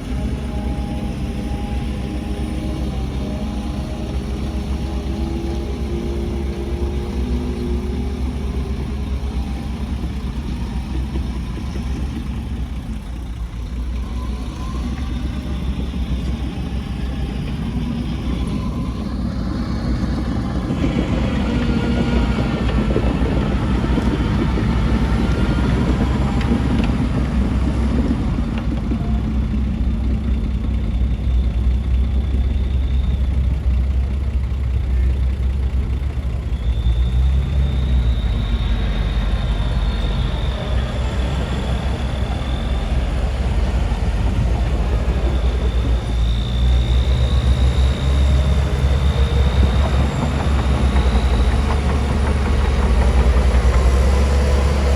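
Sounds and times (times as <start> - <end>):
heavy diesel engine rumbling: 0.0 - 54.9.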